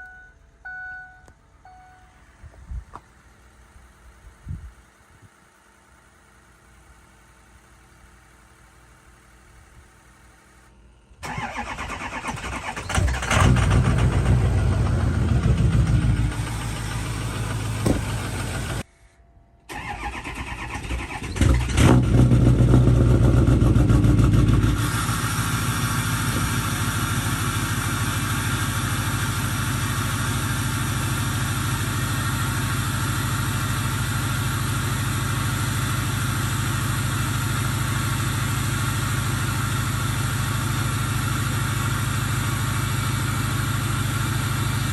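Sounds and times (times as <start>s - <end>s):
diesel engine starting and idling: 3.2s - 18.9s, 19.6s - 44.9s.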